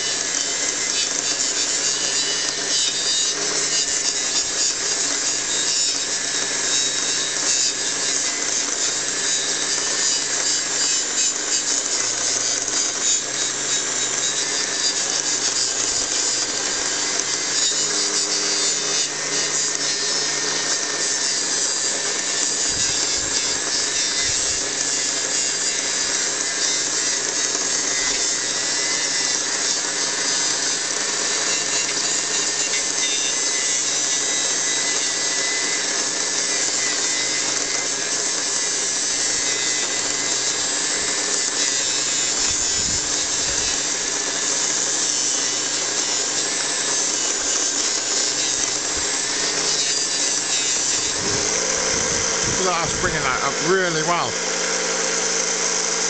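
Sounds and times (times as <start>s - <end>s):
bench grinder motor whine: 0.0s - 56.0s.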